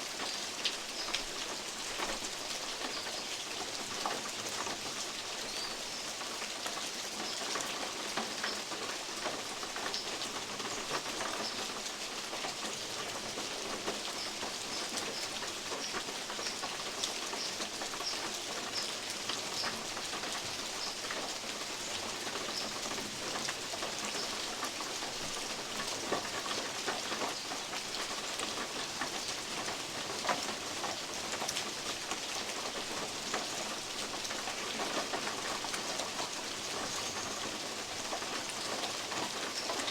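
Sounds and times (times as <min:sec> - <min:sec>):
steady rain in woodland: 0:00.0 - 0:39.9.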